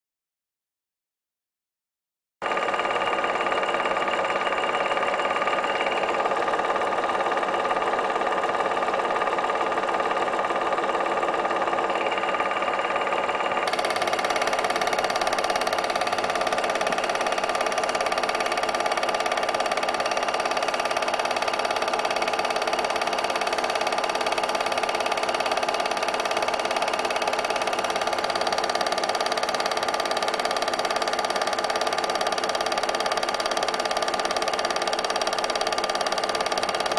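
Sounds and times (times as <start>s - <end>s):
film projector whirring and clattering: 2.4s - 36.9s.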